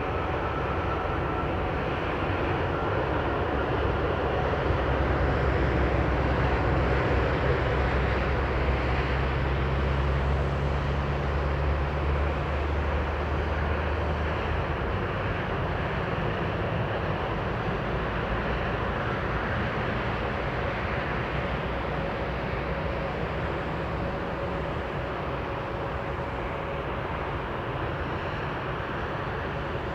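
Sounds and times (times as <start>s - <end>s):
jet airliner roar: 0.0s - 29.9s
low engine hum: 0.0s - 29.9s.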